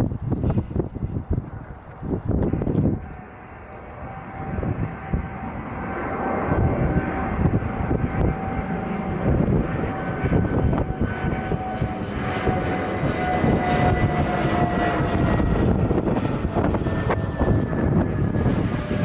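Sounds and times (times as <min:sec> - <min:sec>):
jet engines at takeoff thrust: 0:00.0 - 0:19.0.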